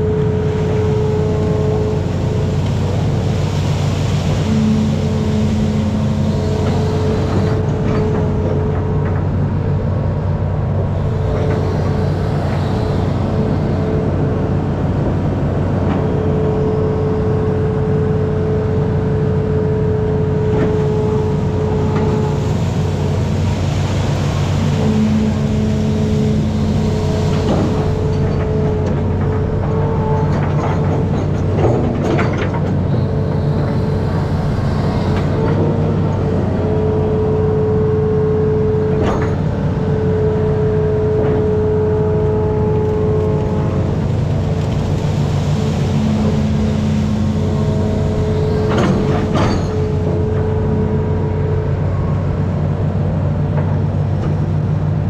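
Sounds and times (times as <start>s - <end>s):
excavator running: 0.0s - 55.0s
hydraulic whining: 0.0s - 55.0s.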